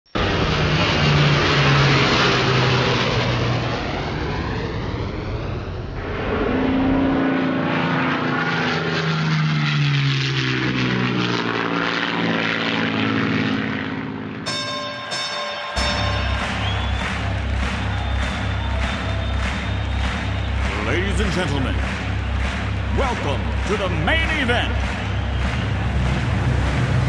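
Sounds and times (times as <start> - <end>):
propeller airplane engine droning: 0.1 - 27.0.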